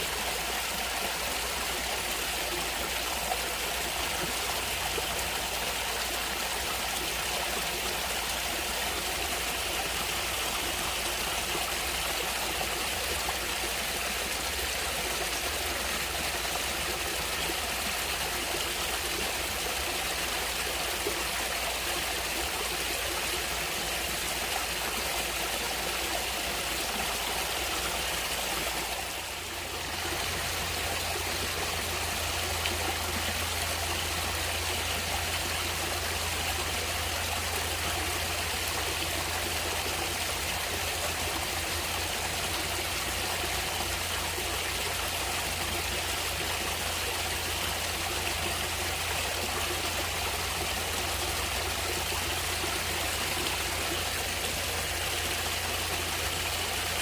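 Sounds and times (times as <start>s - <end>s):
stream rushing and trickling: 0.0s - 57.0s.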